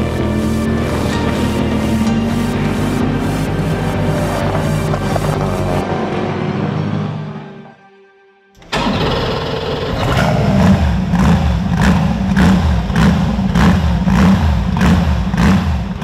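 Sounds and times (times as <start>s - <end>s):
car engine starting and idling: 0.0s - 7.8s, 8.6s - 16.0s.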